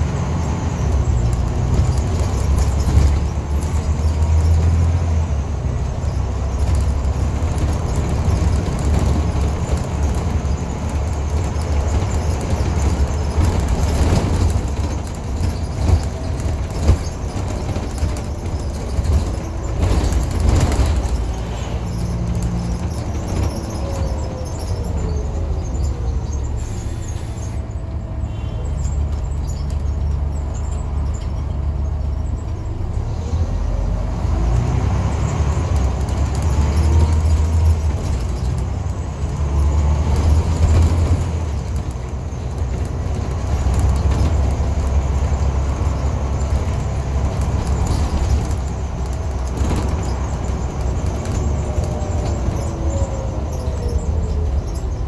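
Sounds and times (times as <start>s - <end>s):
bus engine low rumble: 0.0s - 55.0s.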